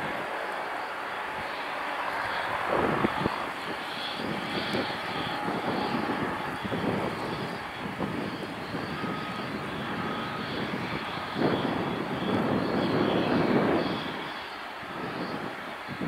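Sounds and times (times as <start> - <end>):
aircraft turbine rush: 0.0 - 16.0
faint high engine whine: 0.0 - 16.0.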